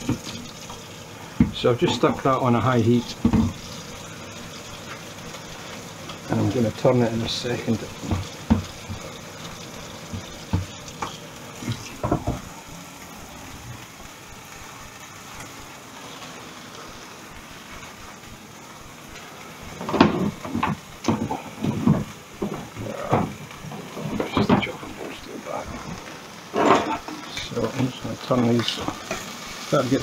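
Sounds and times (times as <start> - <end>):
chicken sizzling in a pan: 0.0 - 30.0.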